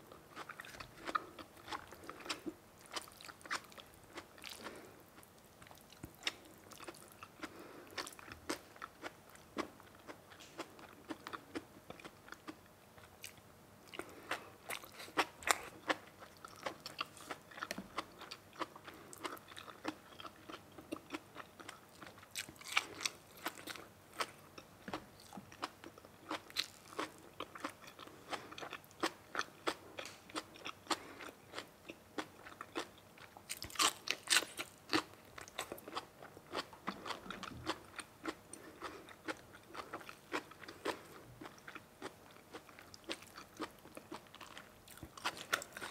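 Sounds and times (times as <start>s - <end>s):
person chewing crunchy food: 0.2s - 45.9s.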